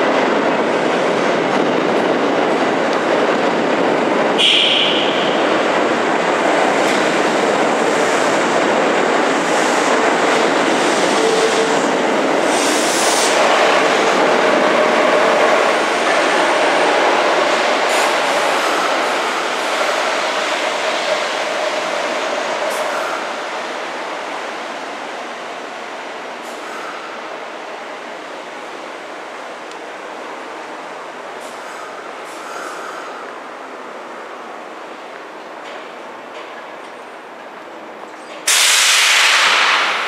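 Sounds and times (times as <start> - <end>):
train rumble of wheels and motors: 0.0 - 40.0.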